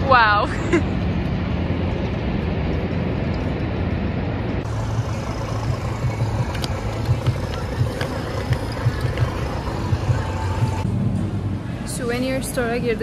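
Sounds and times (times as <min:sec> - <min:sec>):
loud rushing noise with rumble: 0:00.0 - 0:13.0.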